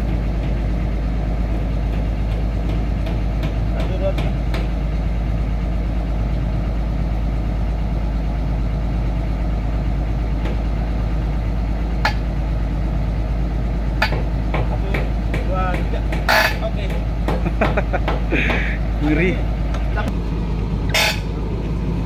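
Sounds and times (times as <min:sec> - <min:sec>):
excavator diesel engine idling: 0:00.0 - 0:22.0.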